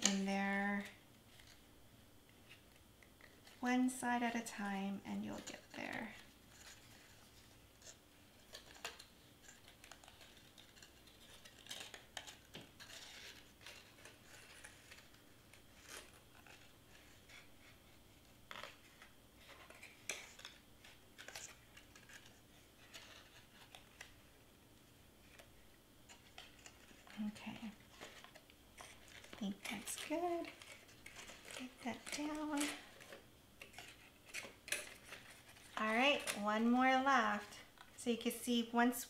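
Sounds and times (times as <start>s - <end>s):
cardstock rustling and tapping: 5.2s - 24.2s, 25.2s - 38.0s.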